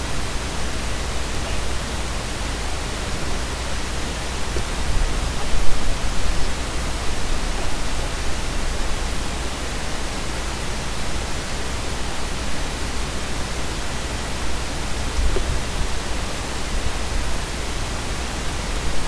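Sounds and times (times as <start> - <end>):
microphone hiss: 0.0 - 19.0.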